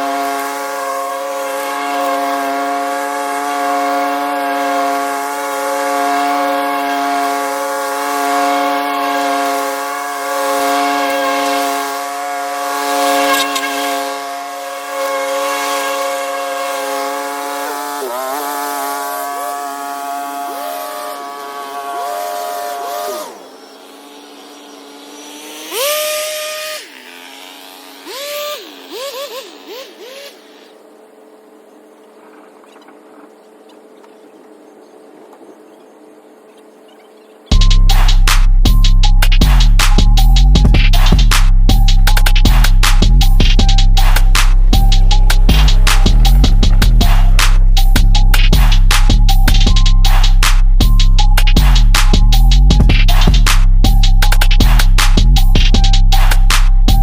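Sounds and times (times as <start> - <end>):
small gasoline engine whining: 0.0 - 57.0.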